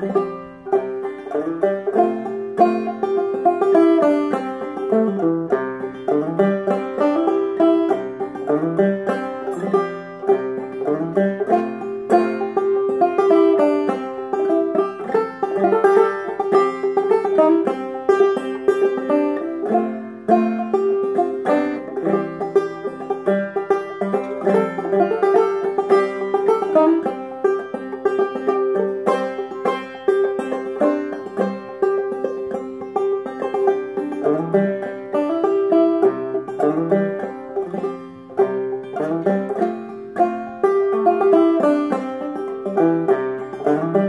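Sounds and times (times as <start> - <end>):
banjo plucked notes: 0.0 - 44.0.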